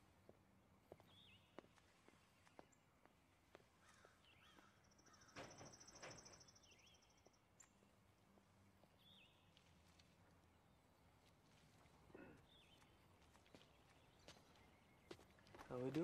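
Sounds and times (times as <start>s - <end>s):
birds chirping: 0.8s - 16.0s.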